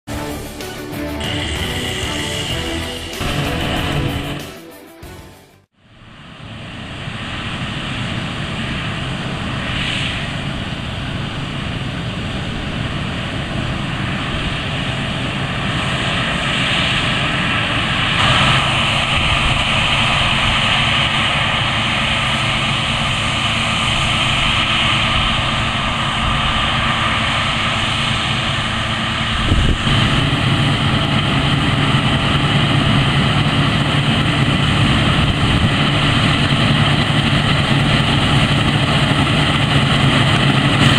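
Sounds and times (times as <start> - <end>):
combine harvester engine drone: 0.1 - 5.1, 5.8 - 40.9
machinery noise: 0.1 - 40.9.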